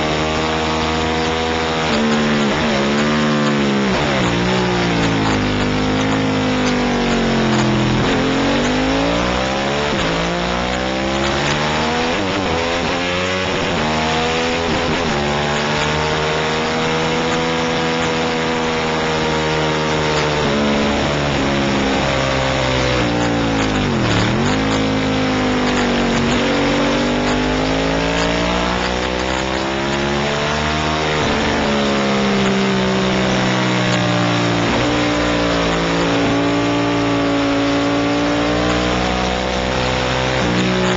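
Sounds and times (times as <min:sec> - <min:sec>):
racing motorcycle engine revving: 0:00.0 - 0:40.9.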